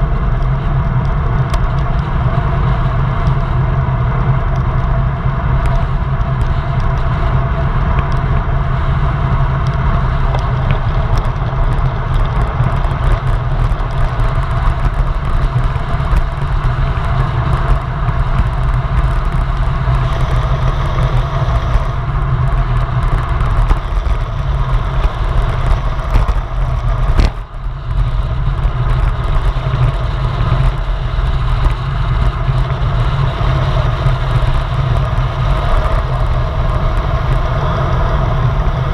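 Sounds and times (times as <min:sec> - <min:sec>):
bike tyre roar on asphalt: 0:00.0 - 0:38.9
wind rush on microphone: 0:00.0 - 0:38.9.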